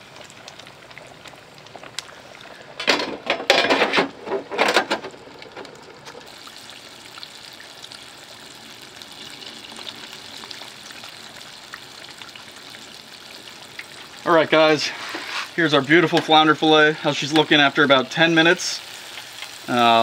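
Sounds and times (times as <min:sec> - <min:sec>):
hot oil bubbling and sizzling: 0:00.0 - 0:20.0.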